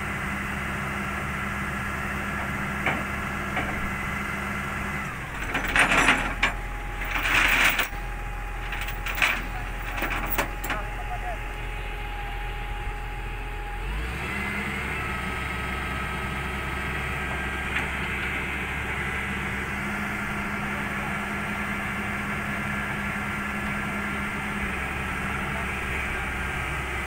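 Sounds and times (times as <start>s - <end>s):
diesel engine working under load: 0.0s - 27.0s.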